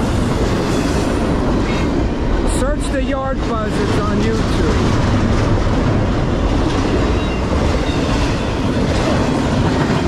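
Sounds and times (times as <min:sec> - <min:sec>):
steel train wheels rumbling on rails: 0:00.0 - 0:10.0.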